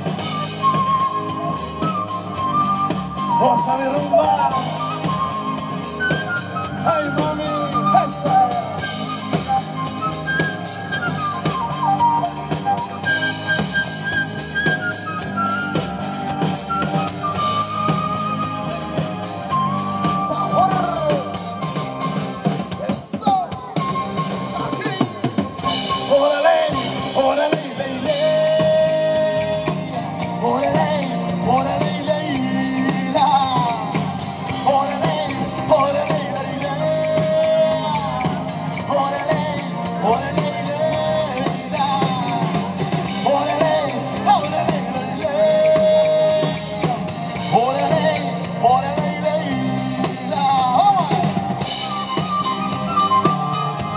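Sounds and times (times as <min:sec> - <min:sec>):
bass guitar: 0:00.0 - 0:53.9
congas: 0:00.0 - 0:53.9
guitar: 0:00.0 - 0:53.9
latin band playing: 0:00.0 - 0:53.9.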